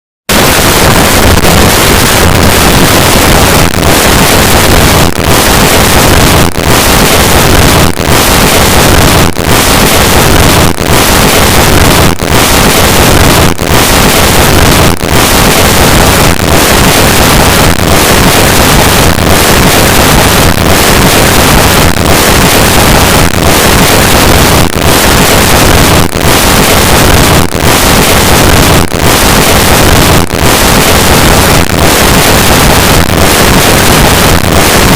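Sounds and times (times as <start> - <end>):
harsh rushing static noise: 0.0 - 34.9.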